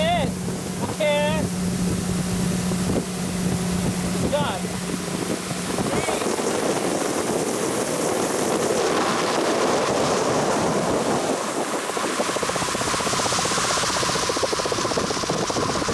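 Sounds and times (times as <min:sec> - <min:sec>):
outboard motor running: 0:00.0 - 0:15.9
rushing water: 0:00.0 - 0:15.9
wind noise: 0:00.0 - 0:15.9.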